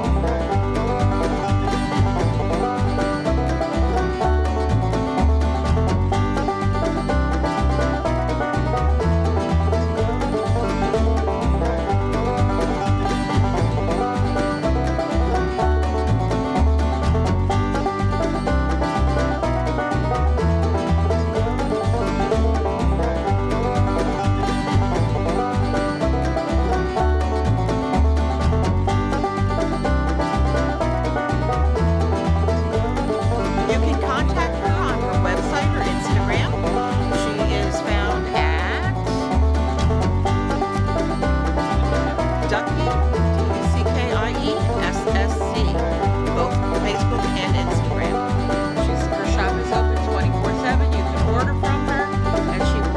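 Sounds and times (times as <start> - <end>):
bluegrass music with plucked strings: 0.0 - 52.9.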